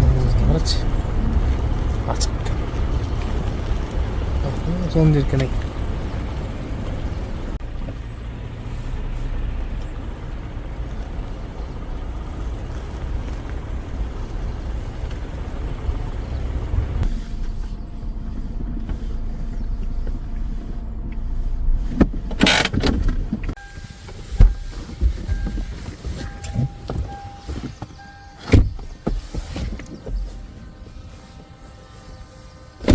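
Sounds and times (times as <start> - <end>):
vehicle driving rumble: 0.0 - 32.9.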